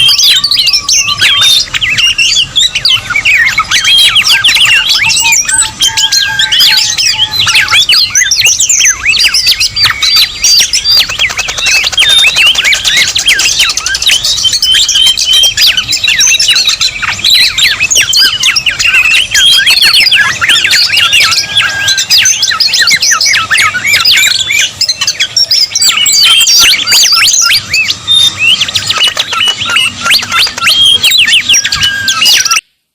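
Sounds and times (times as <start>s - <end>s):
many birds chirping and whistling: 0.0s - 32.6s.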